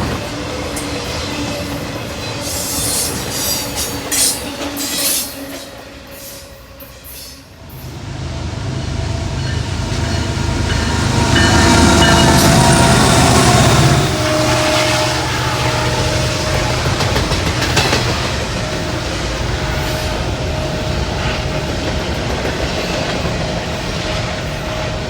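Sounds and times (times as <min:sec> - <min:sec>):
diesel locomotive engine: 0:00.0 - 0:25.0
freight train cars rolling by: 0:00.0 - 0:25.0.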